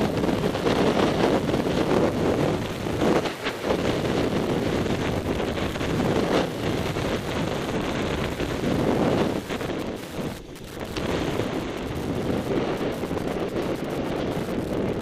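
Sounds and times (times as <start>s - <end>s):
snowboard scraping over snow: 0.0s - 15.0s
wind rushing over microphone: 0.0s - 15.0s.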